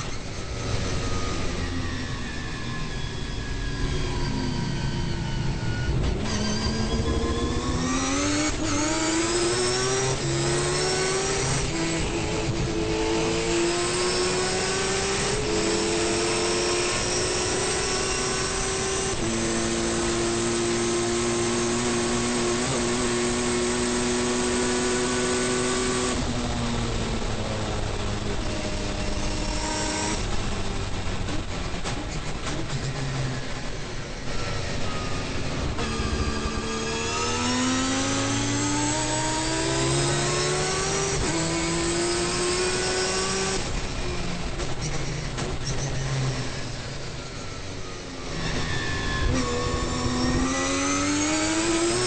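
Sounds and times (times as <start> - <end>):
rotary race car engine accelerating: 0.0 - 52.0.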